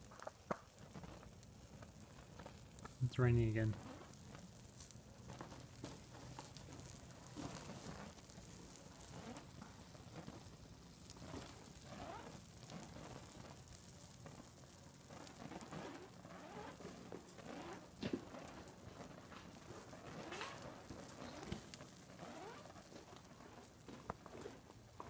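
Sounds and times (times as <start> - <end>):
faint rain patter: 0.0 - 25.0
fire crackling: 0.0 - 25.0
sharp fire pops: 0.0 - 25.0.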